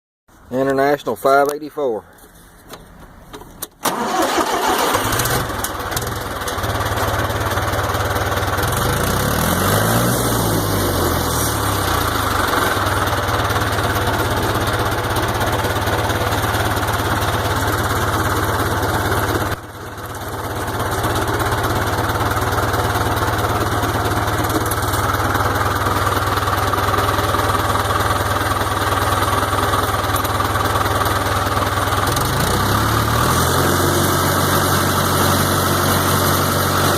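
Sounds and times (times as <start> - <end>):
tractor diesel engine running: 2.2 - 36.9.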